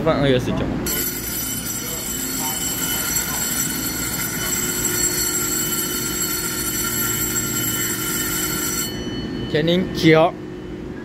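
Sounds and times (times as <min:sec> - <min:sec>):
electric train hum with whining tones: 0:00.7 - 0:11.0.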